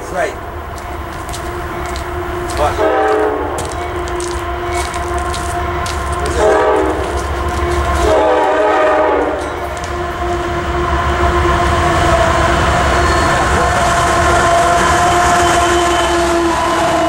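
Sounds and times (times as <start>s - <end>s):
low rumble of diesel engines: 0.0s - 17.0s
train air horn blasts: 1.5s - 17.0s.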